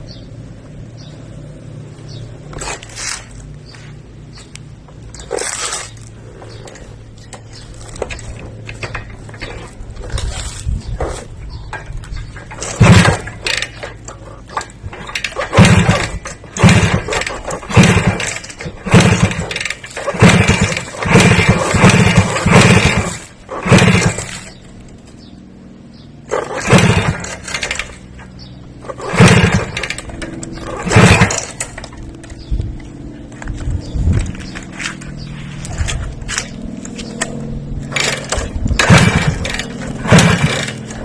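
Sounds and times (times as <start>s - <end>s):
engine revving and idling: 0.0s - 41.0s.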